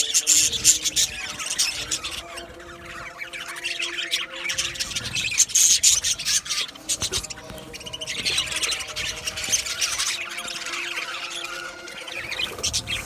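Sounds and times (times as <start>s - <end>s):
budgerigars chattering and squawking: 0.0s - 13.0s.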